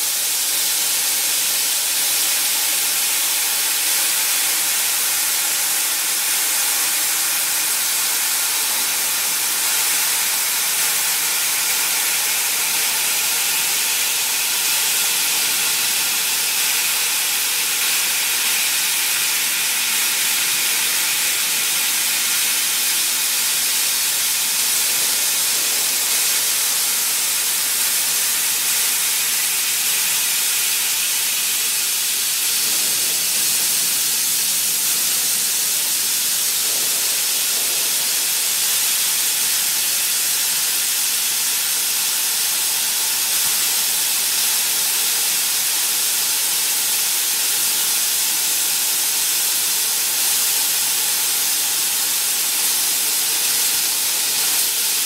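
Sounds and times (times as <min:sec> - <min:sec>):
laser cutter gas jet hissing: 0:00.0 - 0:55.0.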